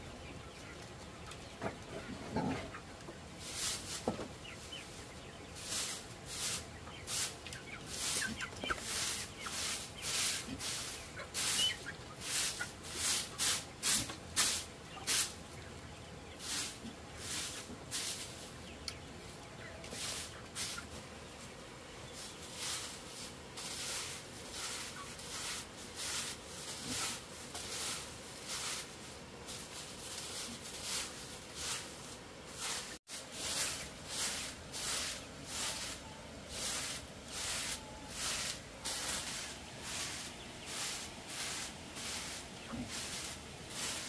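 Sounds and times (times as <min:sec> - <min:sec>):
broom sweeping dirt floor: 0:00.0 - 0:44.0.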